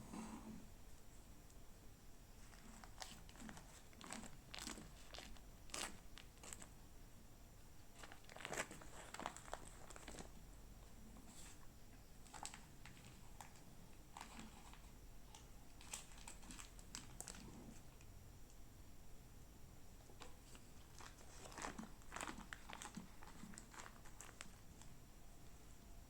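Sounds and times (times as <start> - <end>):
faint crinkling and crackling: 2.3 - 6.8, 7.6 - 18.6, 19.9 - 26.0.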